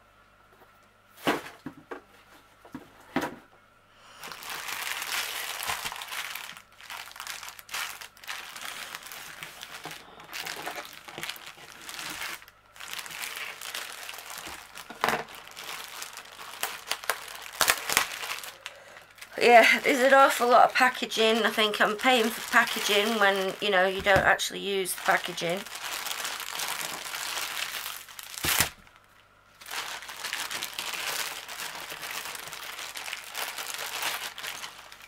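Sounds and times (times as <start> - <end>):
plastic bag crinkling: 4.1 - 35.0.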